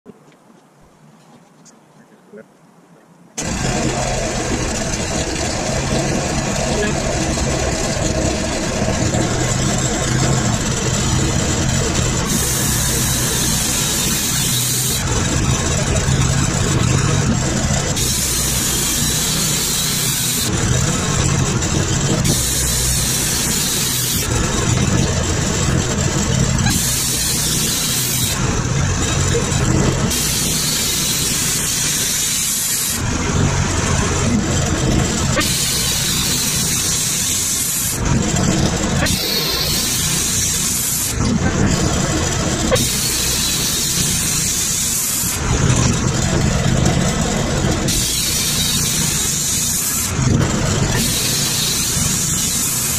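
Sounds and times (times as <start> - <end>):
sawmill engine running: 3.4 - 52.9.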